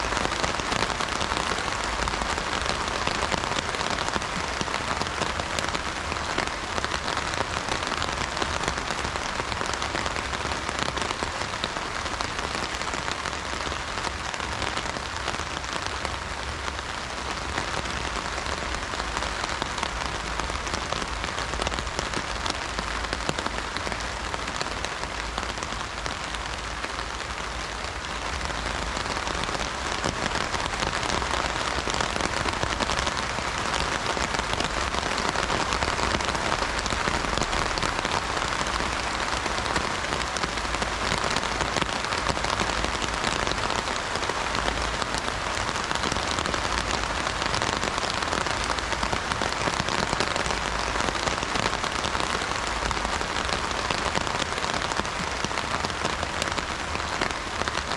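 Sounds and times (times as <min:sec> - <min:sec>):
heavy rain drumming on umbrella: 0:00.0 - 0:57.9.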